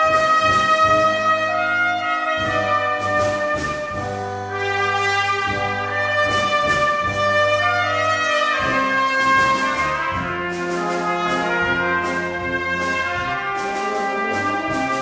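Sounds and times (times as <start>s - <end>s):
brass ensemble playing chords: 0.0s - 15.0s
tuba bass line: 0.0s - 15.0s.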